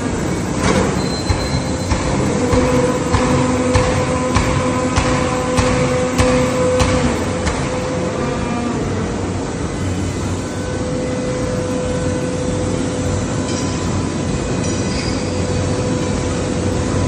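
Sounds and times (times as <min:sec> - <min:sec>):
forging machinery humming: 0:00.0 - 0:17.0.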